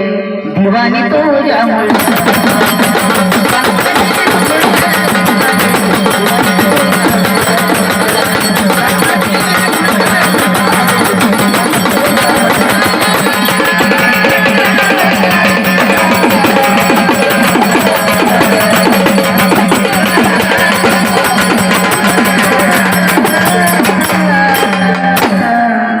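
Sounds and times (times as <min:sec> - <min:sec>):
wavering melody line: 0:01.6 - 0:25.9
fast dense drumming: 0:01.7 - 0:25.6.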